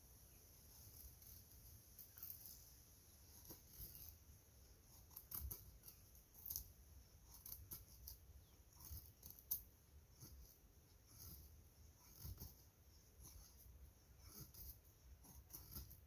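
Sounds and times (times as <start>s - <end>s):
knife shaving wooden stick: 0.6s - 16.0s.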